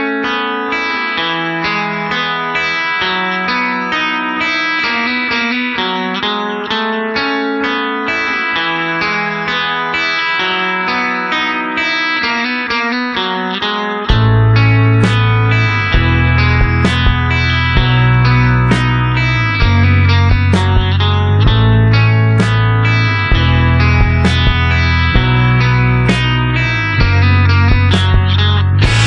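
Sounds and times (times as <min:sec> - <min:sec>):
guitar picking notes: 0:00.0 - 0:29.0.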